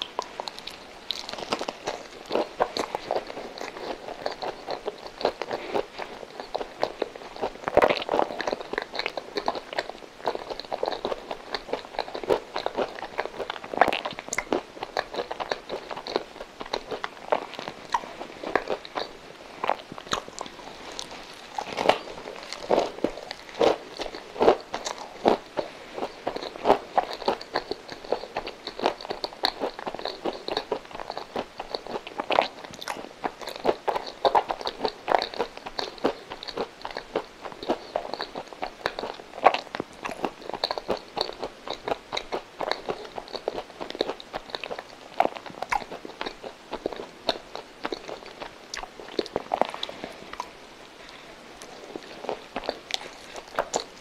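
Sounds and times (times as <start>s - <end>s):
chewing with wet mouth clicks: 0.0s - 54.0s.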